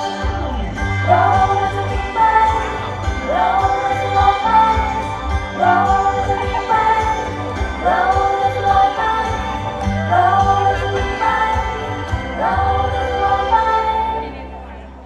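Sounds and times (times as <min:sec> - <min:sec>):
women singing pop ballad: 0:00.0 - 0:14.9
backing track: 0:00.0 - 0:15.0.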